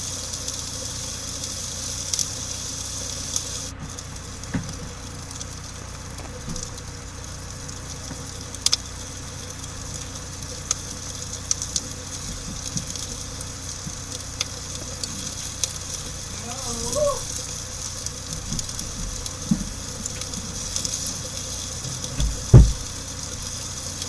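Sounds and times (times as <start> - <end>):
campfire hissing: 0.0 - 24.0
fire pops and crackles: 0.0 - 24.0.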